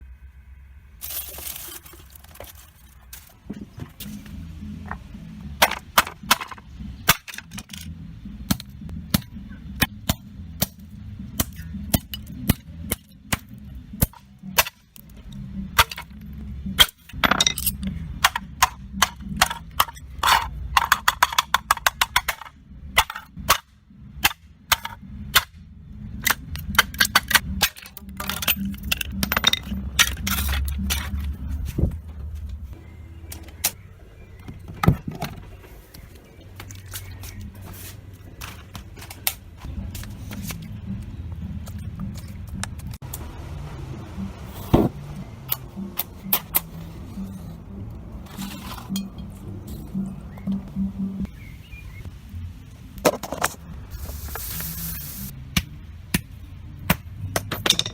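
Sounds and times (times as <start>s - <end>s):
low background music: 3.6s - 57.9s.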